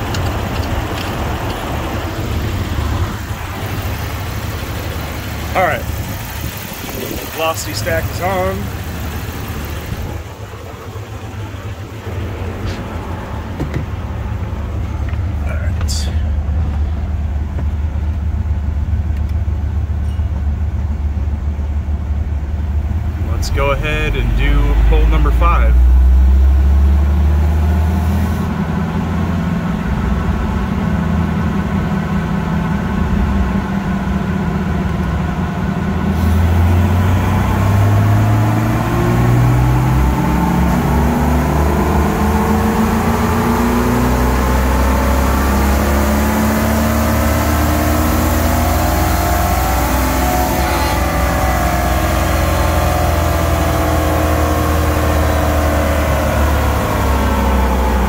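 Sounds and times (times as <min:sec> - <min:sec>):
car engine revving on dyno: 0:00.0 - 0:14.7, 0:22.6 - 0:58.0.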